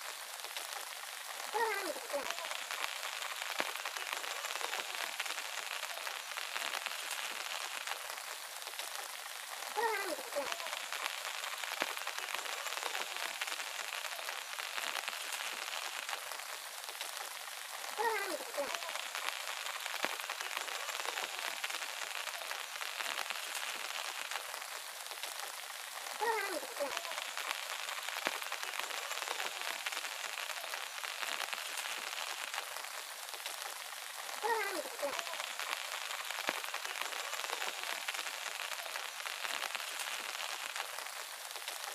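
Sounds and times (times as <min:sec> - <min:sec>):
crackling outdoor hiss: 0:00.0 - 0:41.9
light rain pattering on ground: 0:00.0 - 0:41.9.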